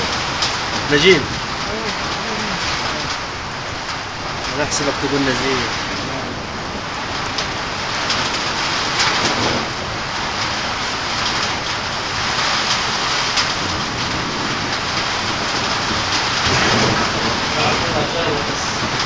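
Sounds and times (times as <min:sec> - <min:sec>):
heavy rain pouring: 0:00.0 - 0:19.0
sharp raindrop hits: 0:00.0 - 0:19.0.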